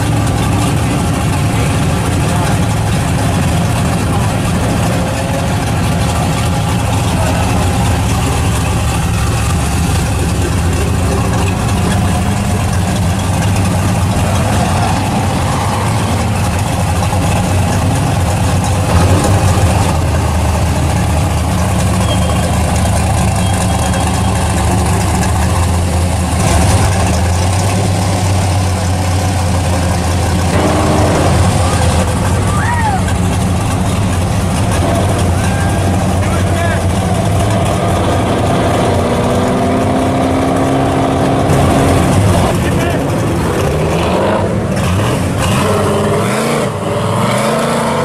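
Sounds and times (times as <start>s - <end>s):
pickup truck engine idling: 0.0s - 45.4s.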